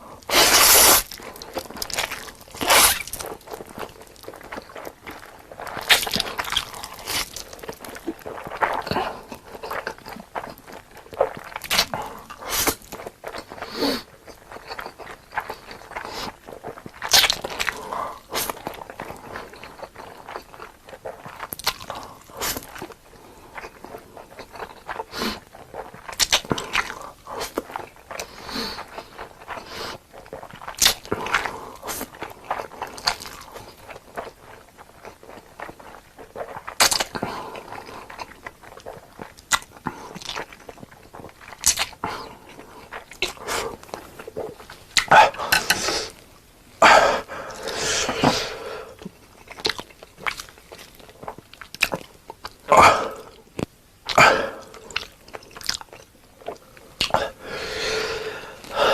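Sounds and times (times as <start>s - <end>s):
person crunching and chewing: 0.1s - 58.9s.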